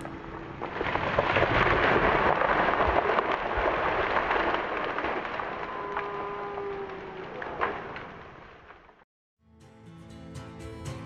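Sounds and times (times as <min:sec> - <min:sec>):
fire crackling and popping: 0:00.0 - 0:09.0.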